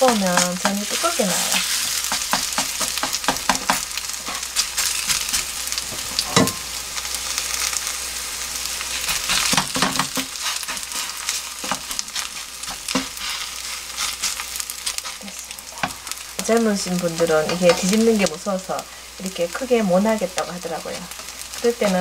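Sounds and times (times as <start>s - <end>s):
batter sizzling in oil: 0.0s - 22.0s
oil crackling and popping: 0.0s - 22.0s.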